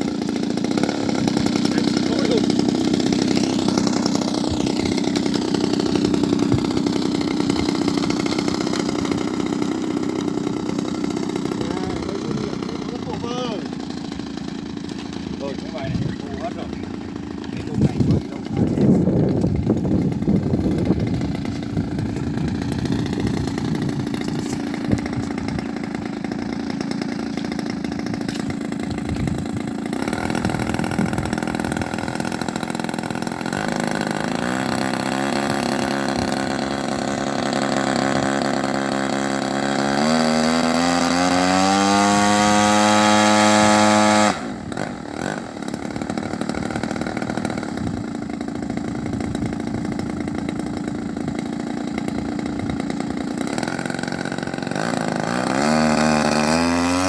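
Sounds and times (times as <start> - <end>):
model airplane engine revving: 0.0 - 57.0.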